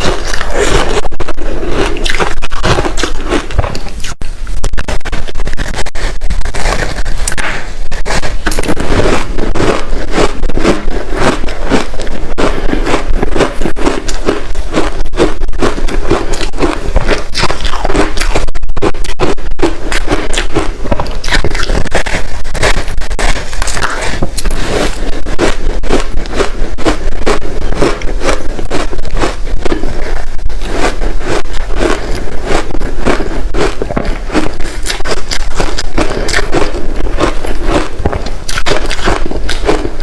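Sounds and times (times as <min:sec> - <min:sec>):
ice crunching being chewed: 0:00.0 - 0:40.0.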